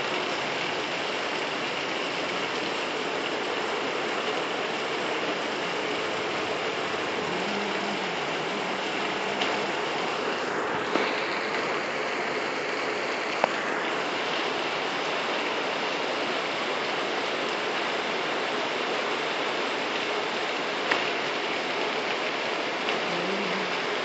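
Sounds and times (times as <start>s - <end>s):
heavy rain on pavement: 0.0s - 24.0s
water running along road: 0.0s - 24.0s.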